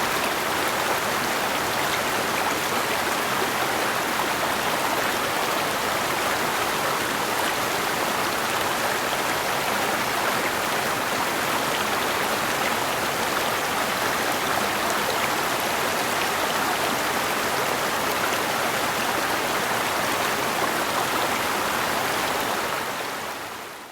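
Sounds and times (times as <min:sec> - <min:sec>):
creek flowing over rocks: 0:00.0 - 0:23.9.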